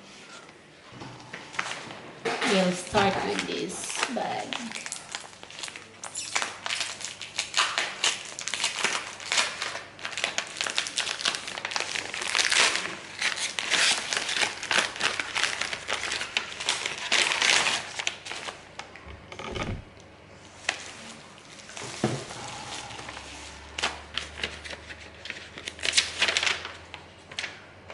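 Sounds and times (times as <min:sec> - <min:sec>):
packaging crinkling: 0:02.8 - 0:18.8, 0:20.6 - 0:27.6.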